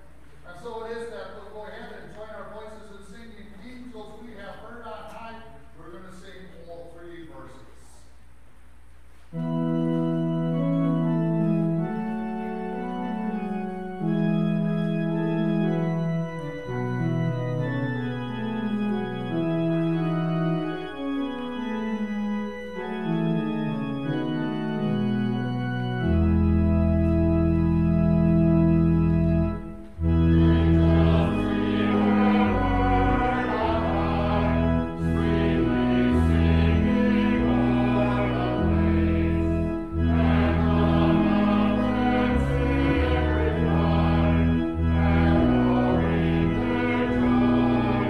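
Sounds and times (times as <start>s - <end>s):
church organ playing a hymn: 0.0s - 7.9s, 9.3s - 48.0s
deep organ pedal bass: 9.4s - 48.0s.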